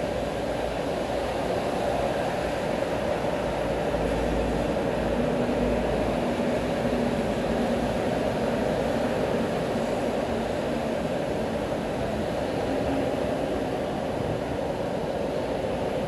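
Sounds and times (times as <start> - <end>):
steady rain: 0.0 - 16.0
traffic on wet roads: 0.0 - 16.0.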